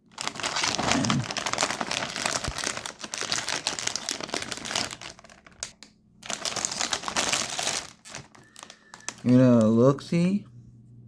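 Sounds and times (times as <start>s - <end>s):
plastic wrapper crinkling: 0.0s - 10.2s.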